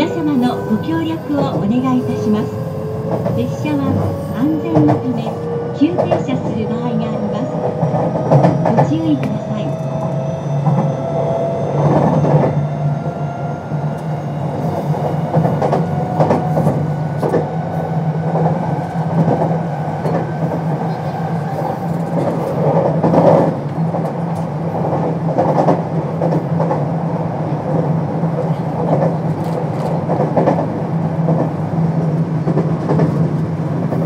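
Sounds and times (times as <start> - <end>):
electric train humming: 0.0 - 34.0.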